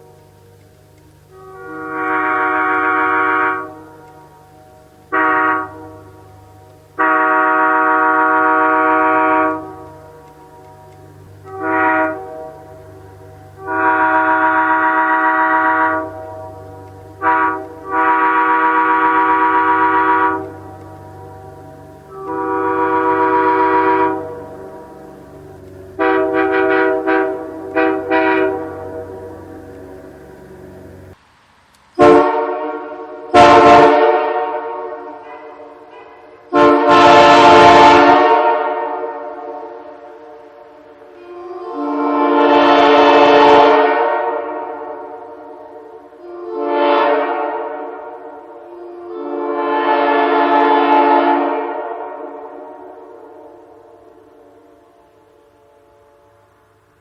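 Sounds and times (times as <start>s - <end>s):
locomotive air horn blasts: 0.0s - 31.2s, 32.0s - 57.0s.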